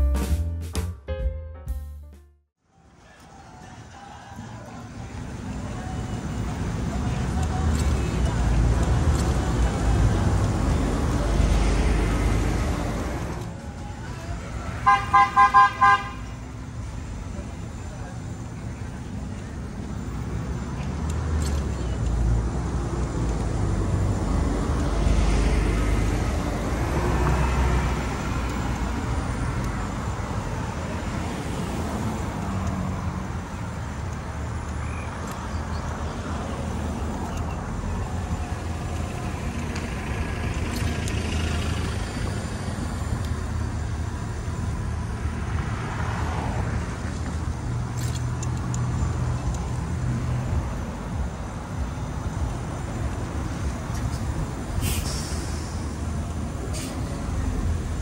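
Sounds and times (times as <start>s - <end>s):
road noise: 2.5s - 58.0s
cars passing by: 2.7s - 58.0s.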